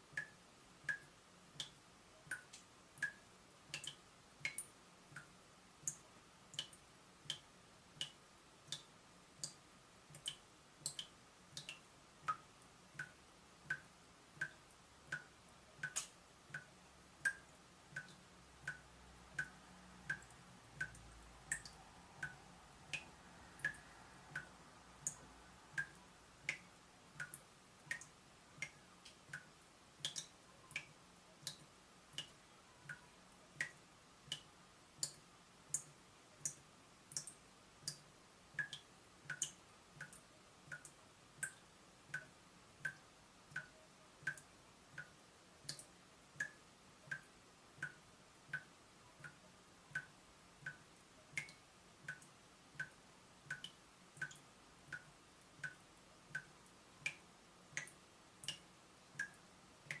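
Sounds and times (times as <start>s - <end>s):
water dripping from tap: 0.1s - 60.0s.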